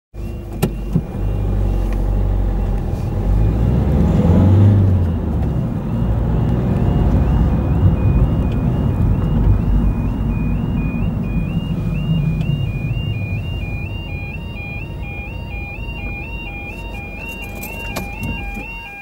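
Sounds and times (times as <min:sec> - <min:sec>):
car driving rumble: 0:00.2 - 0:19.0
level crossing two-tone alarm: 0:00.2 - 0:19.0.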